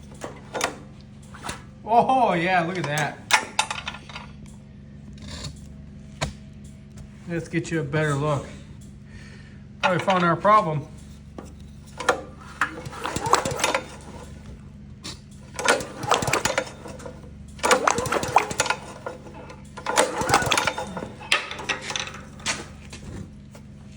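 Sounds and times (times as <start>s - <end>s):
small engine clattering: 0.0s - 4.6s, 6.6s - 23.9s
steady low hum: 0.0s - 23.9s.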